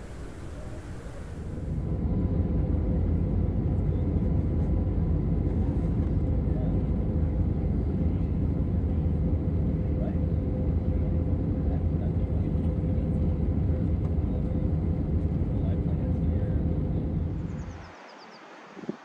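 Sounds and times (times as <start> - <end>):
faint constant hum tone: 0.0 - 19.0
jet engines droning in flight: 0.0 - 19.0.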